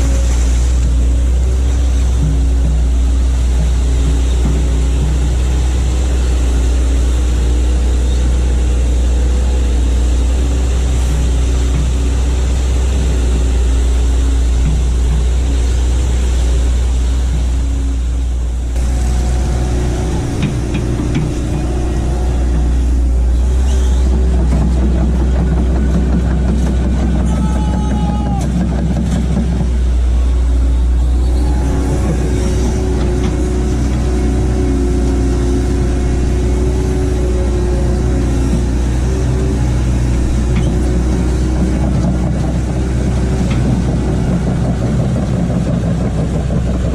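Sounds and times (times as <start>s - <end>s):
excavator diesel engine rumbling: 0.0s - 46.9s.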